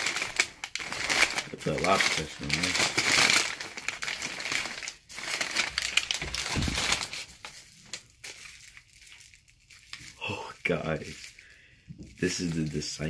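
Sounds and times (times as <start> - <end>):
packing paper crumpling: 0.0 - 13.0.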